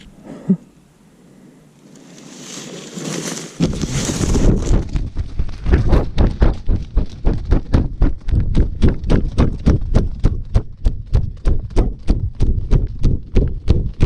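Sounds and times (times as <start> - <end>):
quick footsteps on forest floor: 1.9 - 14.0.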